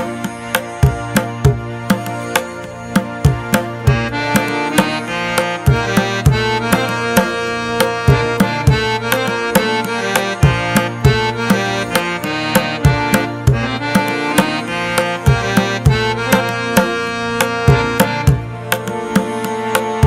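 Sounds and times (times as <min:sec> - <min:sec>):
tabla drumming: 0:00.0 - 0:20.0.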